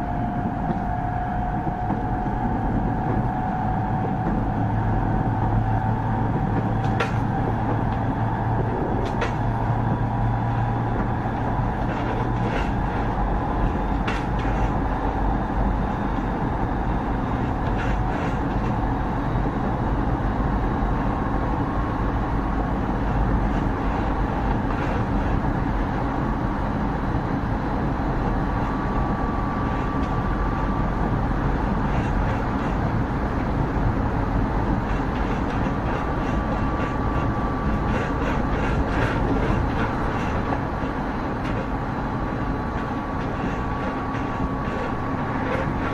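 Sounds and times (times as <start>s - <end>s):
rail clicks: 0.0s - 19.8s, 28.6s - 45.9s
train wheels rumbling on rails: 0.0s - 45.9s.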